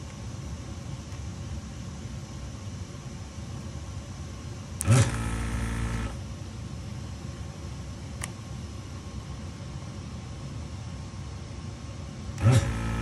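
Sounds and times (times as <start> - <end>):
vacuum pump buzzing hum: 0.0 - 13.0.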